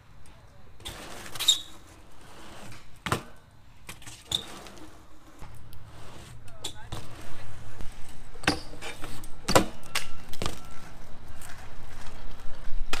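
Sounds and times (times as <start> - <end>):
bike tyres rolling on concrete: 0.0 - 13.0.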